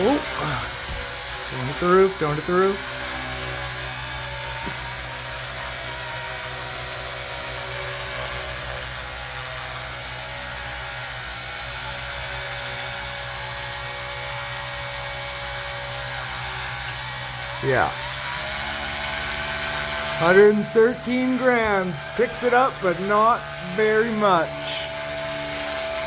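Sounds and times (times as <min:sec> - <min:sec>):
model helicopter hum and whine: 0:00.0 - 0:26.0.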